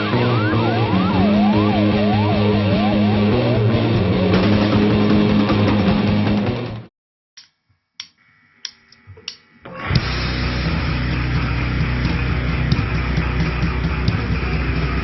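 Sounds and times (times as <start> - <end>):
loud electric guitar: 0.0 - 6.9, 9.7 - 15.0
rock band playing: 0.0 - 6.9, 9.8 - 15.0.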